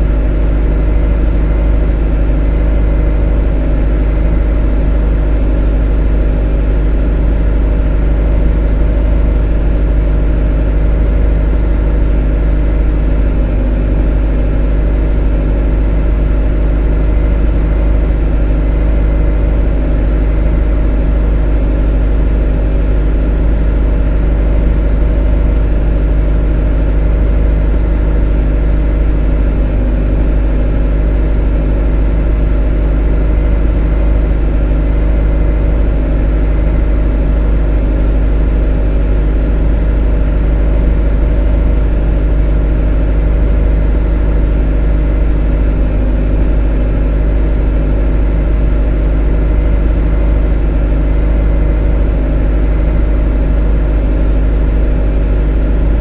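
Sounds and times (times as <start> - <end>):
motor humming: 0.0 - 56.0.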